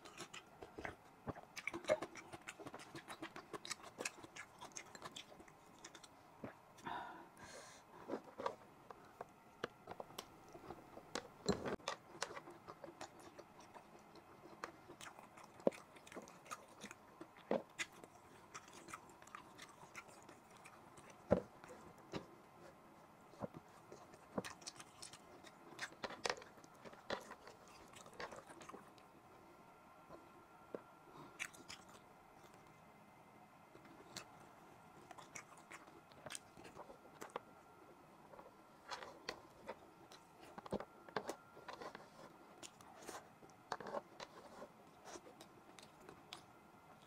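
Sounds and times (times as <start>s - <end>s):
chewing food: 0.0s - 6.8s, 8.0s - 29.4s, 30.1s - 32.9s, 33.7s - 47.0s.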